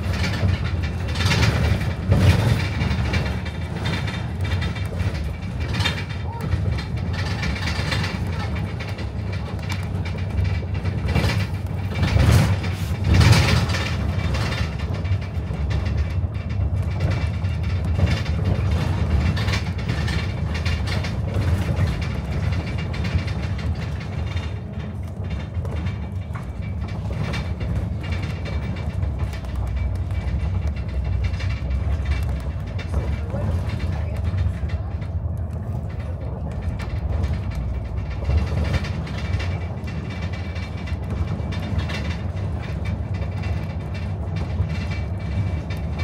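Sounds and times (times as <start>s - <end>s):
bus engine and road rumble: 0.0s - 46.0s
rattles and knocks: 0.0s - 46.0s.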